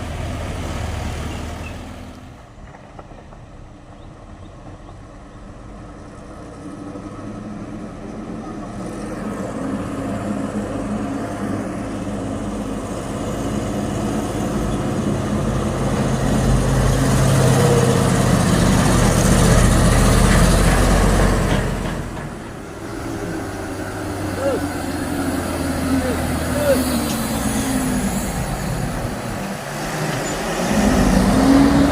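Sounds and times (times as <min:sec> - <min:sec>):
truck engine climbing under load: 0:00.0 - 0:31.9.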